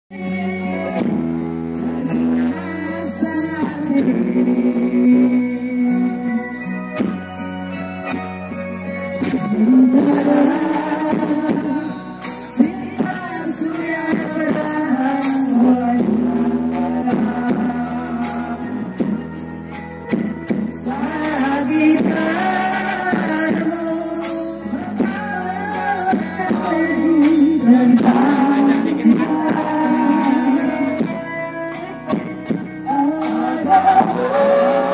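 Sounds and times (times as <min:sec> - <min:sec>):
people singing into microphones: 0:00.1 - 0:08.2, 0:09.1 - 0:34.9
bass and beat backing: 0:00.1 - 0:34.9
live music accompaniment: 0:00.1 - 0:34.9.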